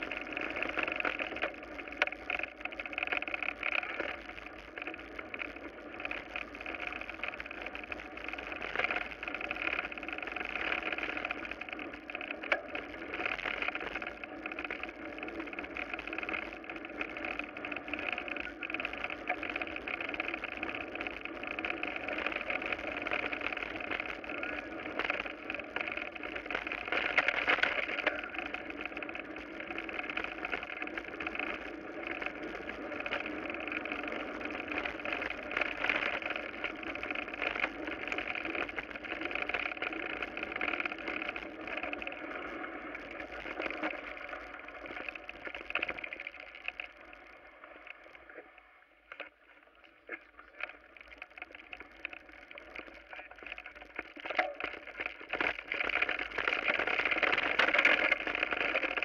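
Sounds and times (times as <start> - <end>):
tyres on loose gravel: 0.0 - 47.2, 50.1 - 59.0
stones and bike rattling: 0.0 - 48.4, 49.1 - 59.0.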